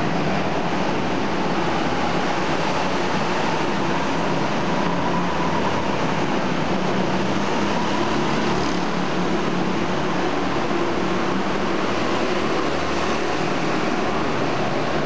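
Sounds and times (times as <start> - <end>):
go-kart engines droning: 0.0 - 15.0.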